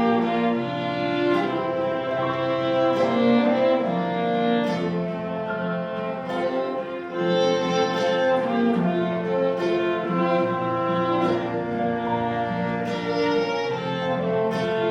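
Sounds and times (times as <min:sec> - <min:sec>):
violin and cello music: 0:00.0 - 0:14.9.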